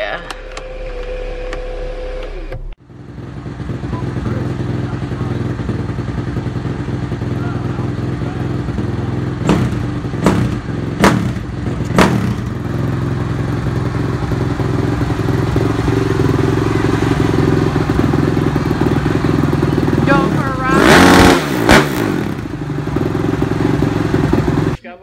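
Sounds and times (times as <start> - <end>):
dirt bike engine idling: 2.8 - 25.0.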